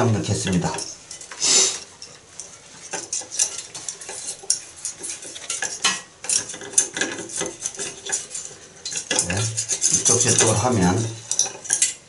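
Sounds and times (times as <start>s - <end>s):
wire scraping against metal drain: 0.4s - 12.0s.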